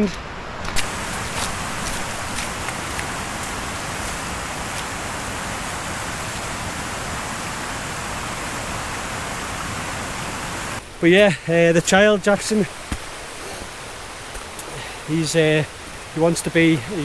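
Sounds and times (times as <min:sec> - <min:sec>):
stream cascading over rocks: 0:00.7 - 0:17.0.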